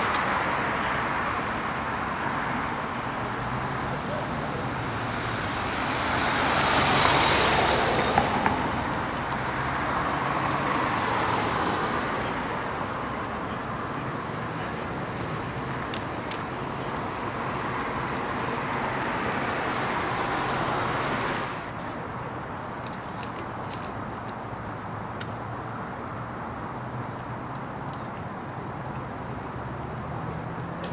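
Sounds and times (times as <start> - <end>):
road traffic passing: 0.0 - 30.9.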